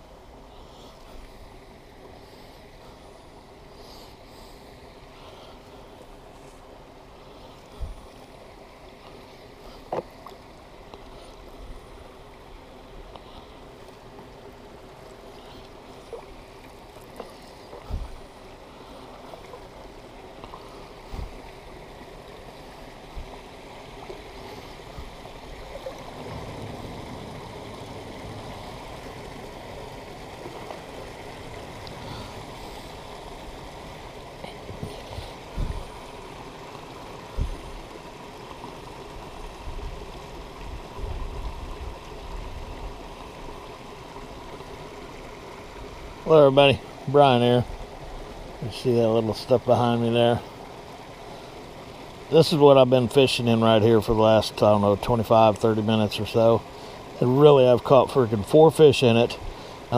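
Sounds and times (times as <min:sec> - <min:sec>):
water lapping and trickling: 0:00.0 - 0:59.9.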